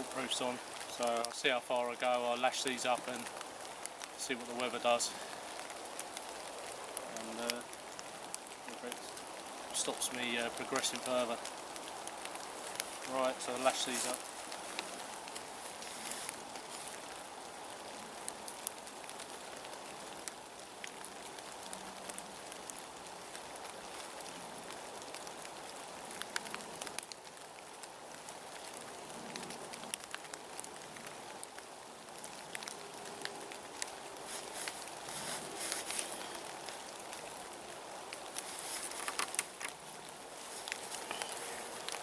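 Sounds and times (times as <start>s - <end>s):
steady rain in woodland: 0.0s - 42.0s.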